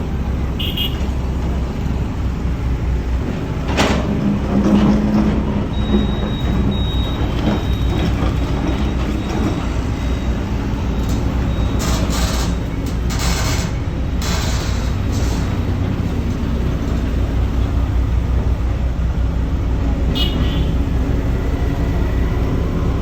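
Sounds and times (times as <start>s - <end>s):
heavy machinery engine rumble: 0.0s - 23.0s.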